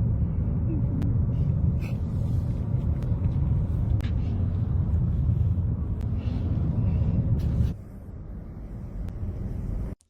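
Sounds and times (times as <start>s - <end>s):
car driving rumble: 0.0s - 10.0s.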